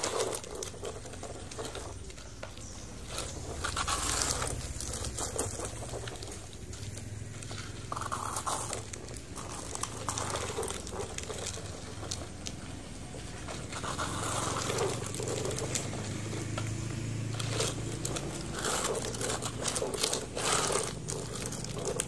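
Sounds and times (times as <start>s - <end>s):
toy excavator scraping sandy dirt: 0.0s - 22.0s.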